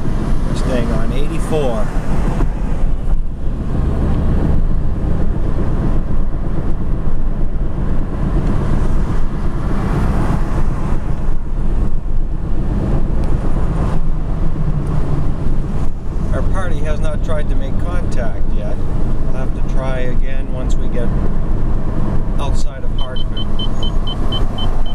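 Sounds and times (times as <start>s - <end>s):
car road noise rumble: 0.0s - 24.9s.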